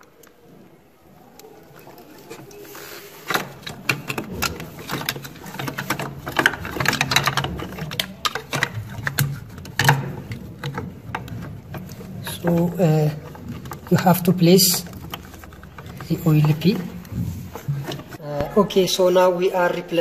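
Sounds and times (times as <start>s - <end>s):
plastic parts clicking and knocking: 0.0s - 18.2s.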